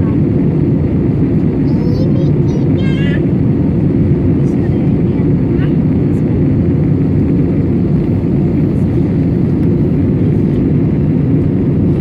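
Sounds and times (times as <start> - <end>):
jet cabin rumble: 0.0 - 12.0.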